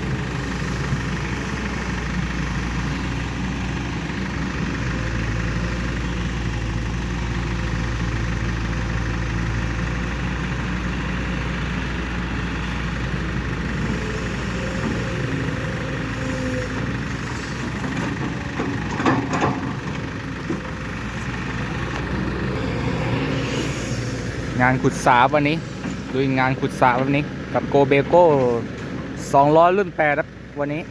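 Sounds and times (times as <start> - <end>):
heavy diesel machinery running: 0.0 - 30.9.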